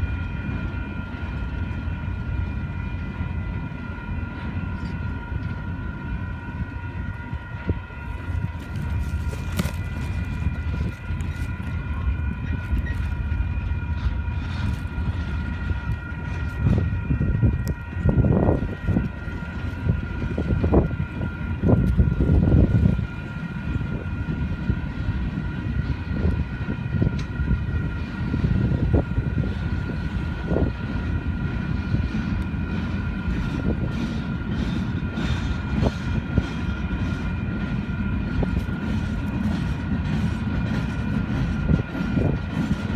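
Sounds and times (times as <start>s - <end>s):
train cars rumbling past: 0.0s - 42.9s.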